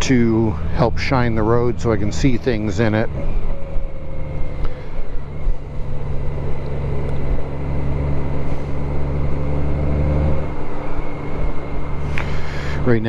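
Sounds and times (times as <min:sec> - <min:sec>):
motorcycle engine humming: 0:00.0 - 0:13.0.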